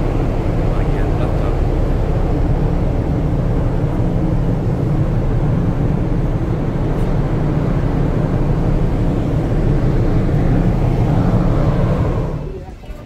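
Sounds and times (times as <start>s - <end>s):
ship engines droning: 0.0s - 13.0s
wind buffeting microphone: 0.0s - 13.0s.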